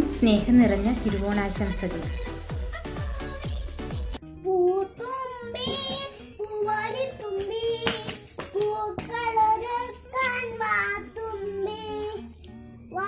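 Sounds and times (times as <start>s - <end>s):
boy singing: 2.1s - 13.0s.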